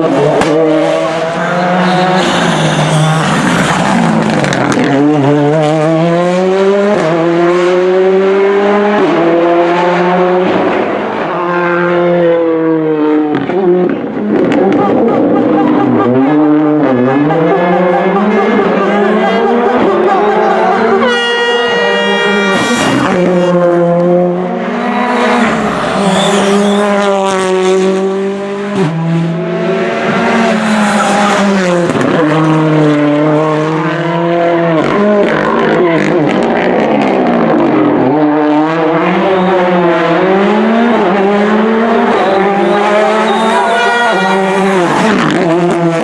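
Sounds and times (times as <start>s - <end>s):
rally car engine revving hard: 0.0s - 46.0s.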